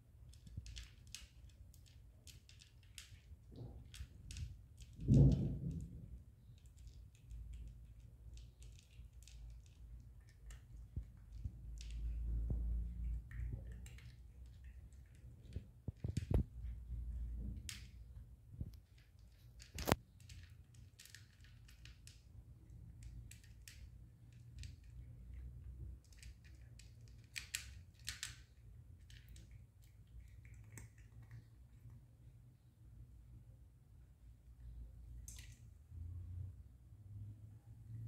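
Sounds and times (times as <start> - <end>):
cat crunching dry kibble: 0.2 - 32.0.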